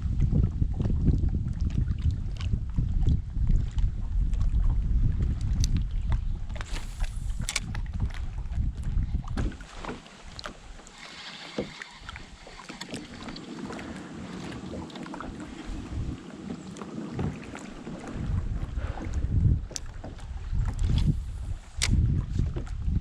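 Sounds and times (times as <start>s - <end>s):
wind buffeting microphone: 0.0s - 10.8s, 11.4s - 23.0s
clicks and knocks from boat: 0.2s - 15.8s, 16.4s - 23.0s.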